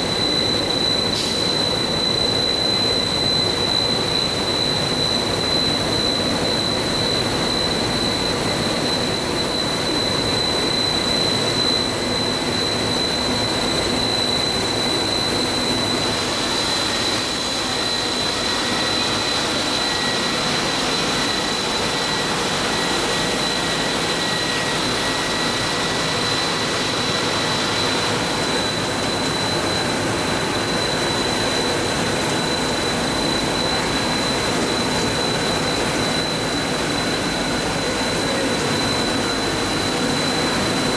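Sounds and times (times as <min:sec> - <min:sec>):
high-pitched whine: 0:00.0 - 0:40.9.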